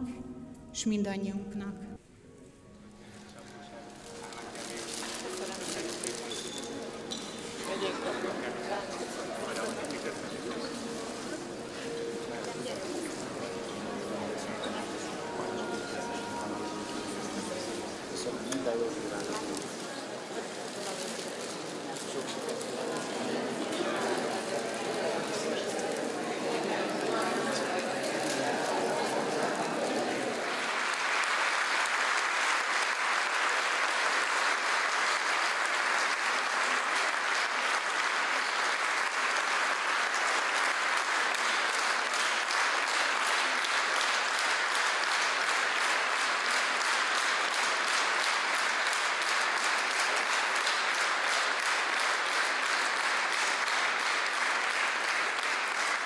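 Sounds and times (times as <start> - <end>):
audience applause: 4.3 - 56.0.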